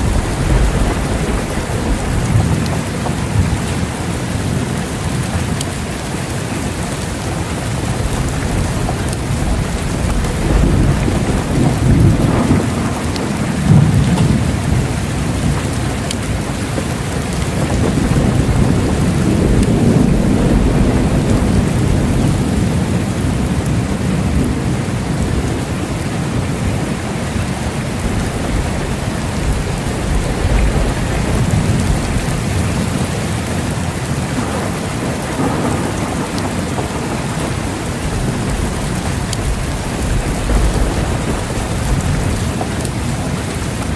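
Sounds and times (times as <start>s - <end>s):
steady rain: 0.0s - 43.9s
thunder rumbling: 0.0s - 43.9s.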